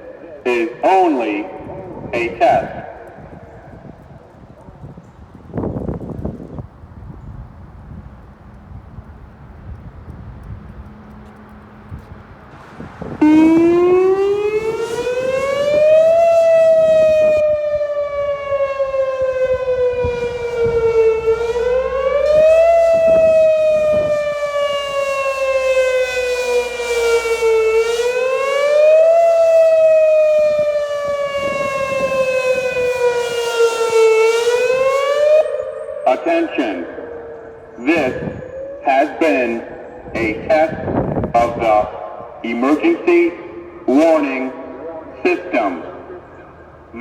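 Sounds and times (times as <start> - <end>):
tornado siren wailing: 0.0 - 7.2, 7.8 - 47.0.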